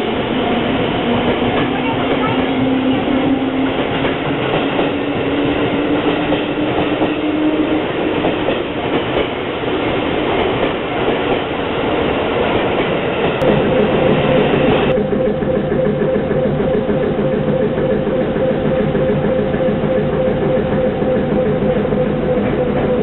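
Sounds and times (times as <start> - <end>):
running noise inside train car: 0.0 - 23.0
train motors humming: 0.0 - 23.0
train wheels on rails: 0.0 - 23.0.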